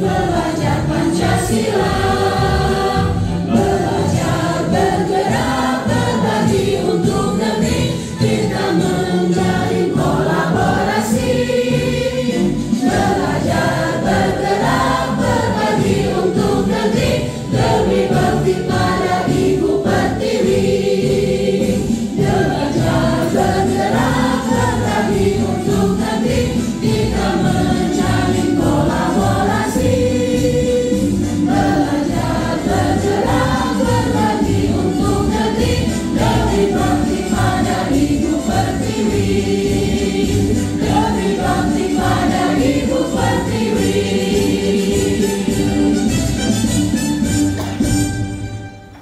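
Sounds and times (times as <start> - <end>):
crowd singing in unison: 0.0 - 46.6
instrumental accompaniment with beat: 0.0 - 49.0.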